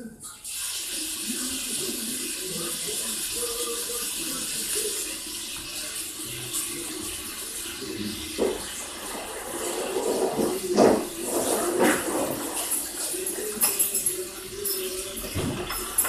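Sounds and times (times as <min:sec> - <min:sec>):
faint voices: 0:00.0 - 0:16.0
water running from a tap: 0:00.0 - 0:16.0.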